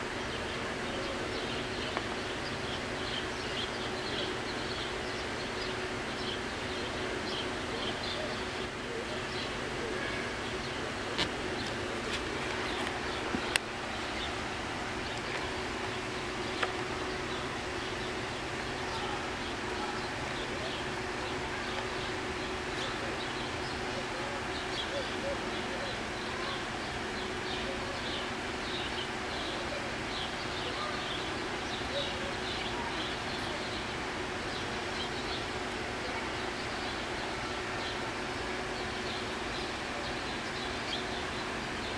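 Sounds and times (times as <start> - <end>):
small birds chirping: 0.1 - 41.9.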